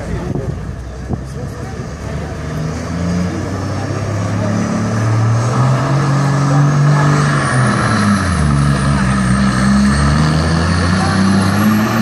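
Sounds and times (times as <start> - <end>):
diesel truck engine revving: 0.0 - 12.0.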